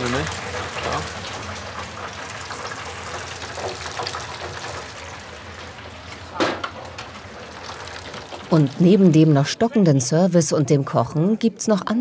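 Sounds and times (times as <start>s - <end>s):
fryer and extractor hissing: 0.0s - 10.5s.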